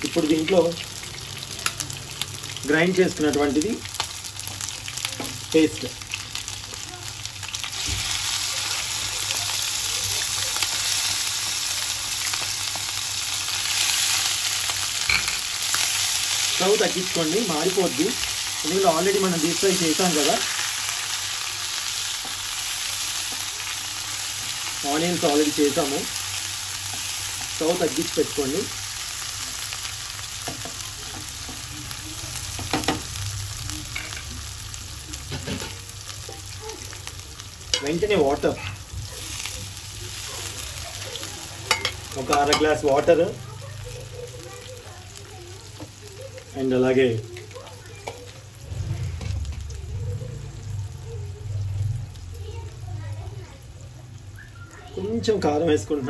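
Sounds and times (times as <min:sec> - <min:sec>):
paste sizzling in hot oil: 0:00.0 - 0:56.0.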